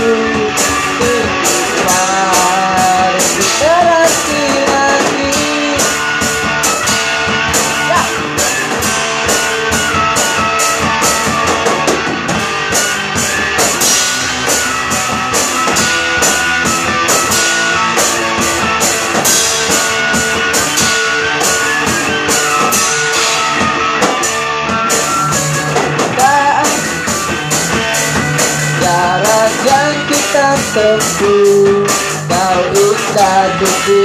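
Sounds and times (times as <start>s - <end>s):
drum kit: 0.0s - 34.0s
electric guitar: 0.0s - 34.0s.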